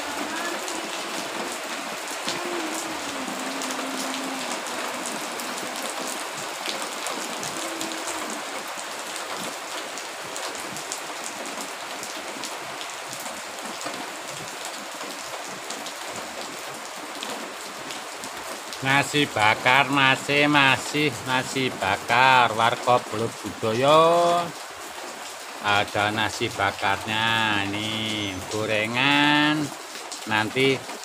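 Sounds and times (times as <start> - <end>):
raindrops ticking: 0.0 - 31.0
steady rain falling: 0.0 - 31.0.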